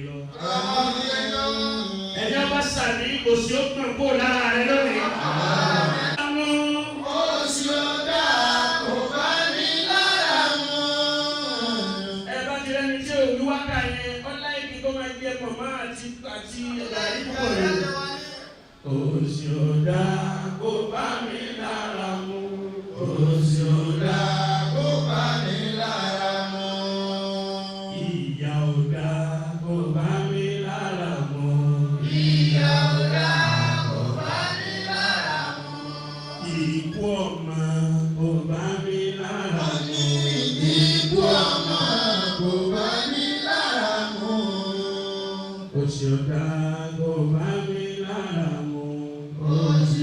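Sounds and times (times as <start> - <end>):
low vocal chanting: 0.0 - 13.8, 16.6 - 50.0.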